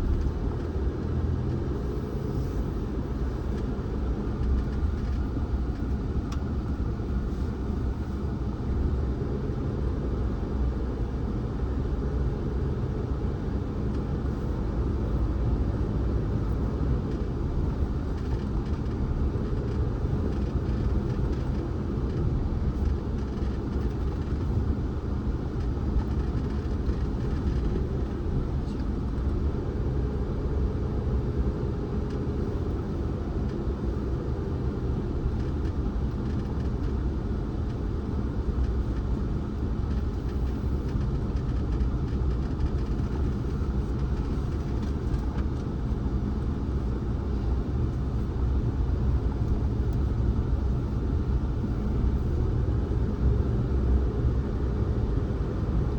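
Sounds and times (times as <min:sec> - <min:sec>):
car road and engine rumble: 0:00.0 - 0:55.9.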